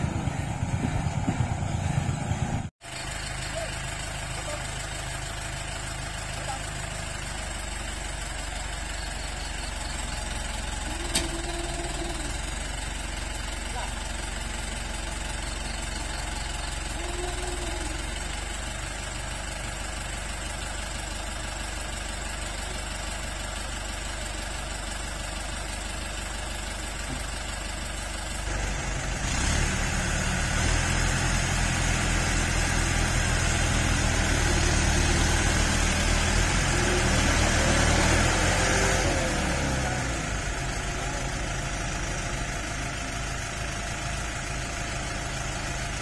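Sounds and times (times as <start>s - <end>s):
tractor diesel engine: 0.0s - 46.0s.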